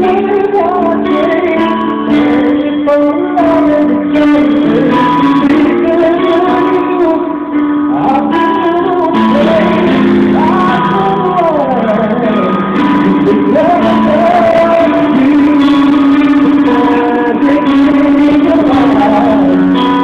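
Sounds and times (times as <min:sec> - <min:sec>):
instrumental accompaniment: 0:00.0 - 0:20.0
man singing a ballad: 0:00.0 - 0:20.0.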